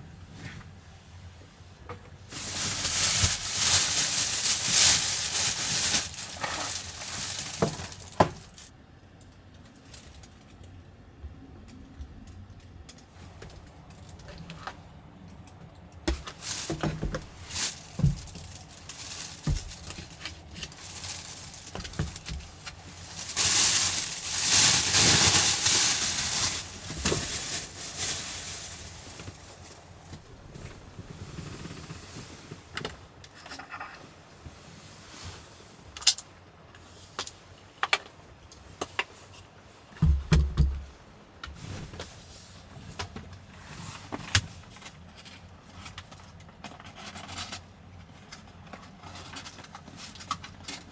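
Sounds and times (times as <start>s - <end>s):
rustling or scraping: 0.2s - 8.7s, 12.2s - 15.5s, 16.1s - 37.4s, 40.8s - 50.9s.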